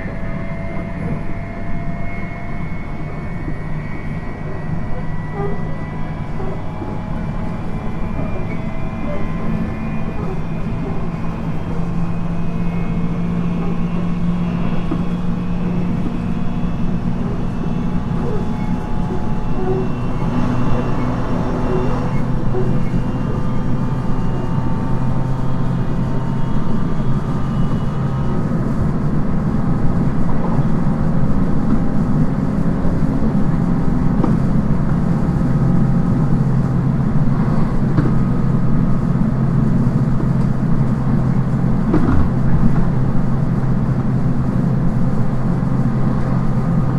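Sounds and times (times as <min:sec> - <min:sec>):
train motor hum: 0:00.0 - 0:46.9
wheels rumbling on rail: 0:00.0 - 0:46.9.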